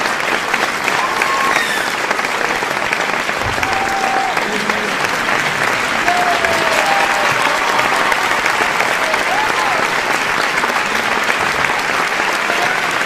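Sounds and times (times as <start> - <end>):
audience applauding: 0.0 - 13.0
people cheering and calling: 0.0 - 13.0.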